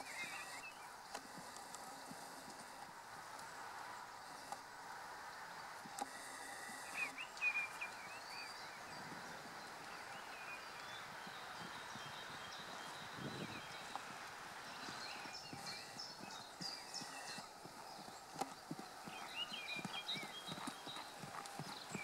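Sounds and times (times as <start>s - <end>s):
bird chirping: 0.0s - 1.2s, 5.5s - 22.0s
outdoor background hiss: 0.0s - 22.0s.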